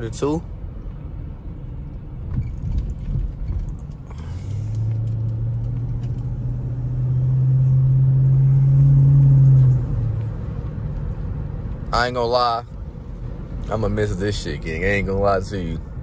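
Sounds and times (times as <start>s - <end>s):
car engine drone under throttle: 0.6s - 13.9s.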